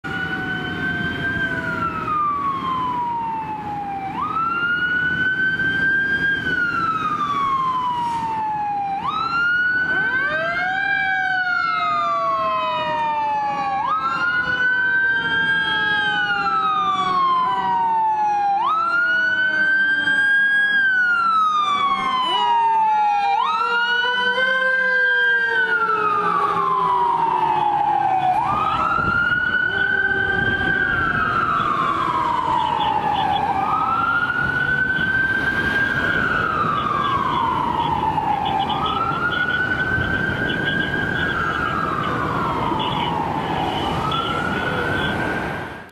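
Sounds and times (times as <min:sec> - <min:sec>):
fire engine siren wailing: 0:00.0 - 0:45.9
lower sweeping siren tone: 0:00.0 - 0:45.9.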